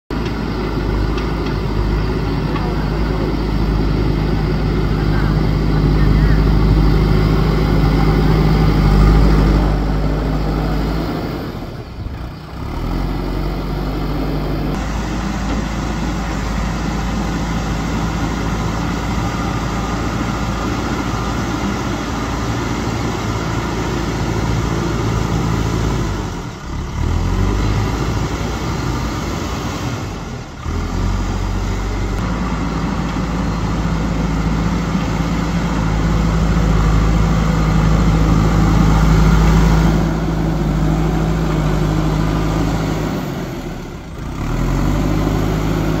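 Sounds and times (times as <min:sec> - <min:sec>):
diesel engine running: 0:00.1 - 0:46.0.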